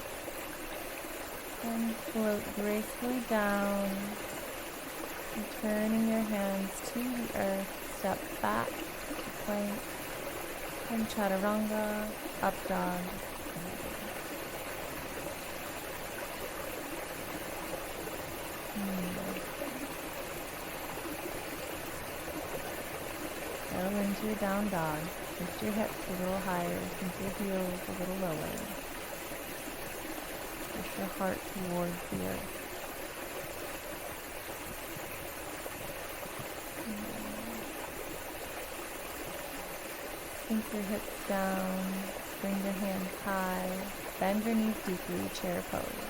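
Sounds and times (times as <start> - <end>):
stream water rushing: 0.0 - 46.0.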